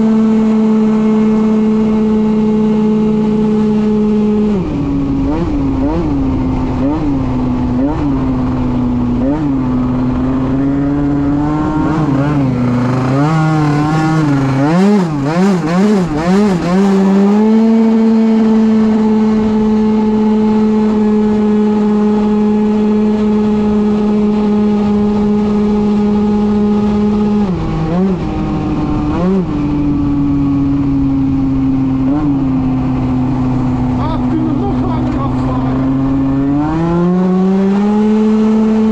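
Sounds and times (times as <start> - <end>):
two-stroke scooter engine revving: 0.0 - 38.9.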